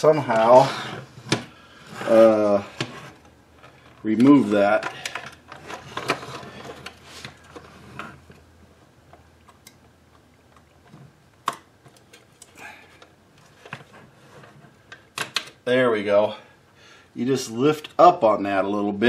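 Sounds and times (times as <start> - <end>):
handling noises: 0.0 - 15.7.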